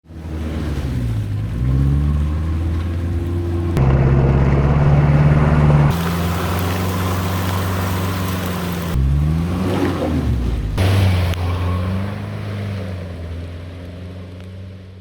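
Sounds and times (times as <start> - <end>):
diesel engine running: 0.0 - 15.0
engine revving: 0.0 - 15.0.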